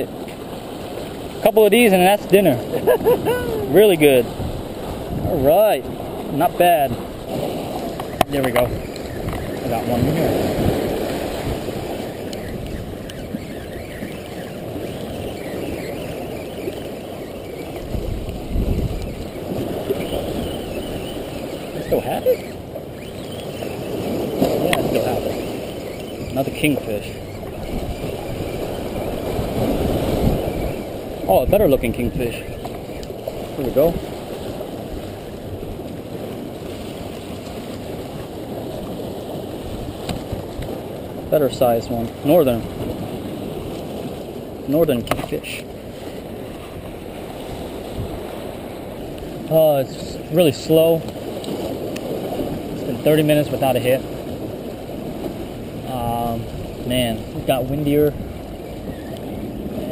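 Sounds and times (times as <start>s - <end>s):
surf washing against rocks: 0.0s - 59.9s
wind rumbling on microphone: 0.0s - 59.9s.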